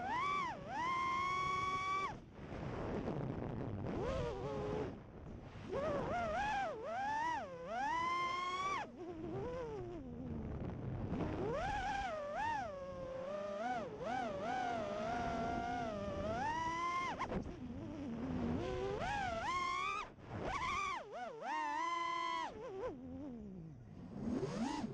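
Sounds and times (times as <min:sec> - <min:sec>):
drone motors whining: 0:00.0 - 0:02.2, 0:05.7 - 0:24.9.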